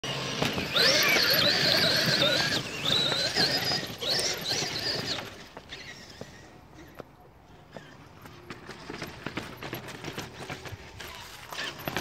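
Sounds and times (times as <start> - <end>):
rc truck motor whining: 0.0 - 7.0, 8.7 - 12.0
tyres on gravel: 0.0 - 12.0.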